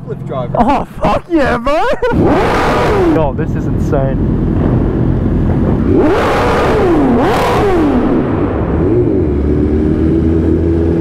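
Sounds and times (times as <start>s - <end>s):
motorcycle engines humming: 0.0s - 11.0s
motorcycle engine revving: 2.0s - 11.0s.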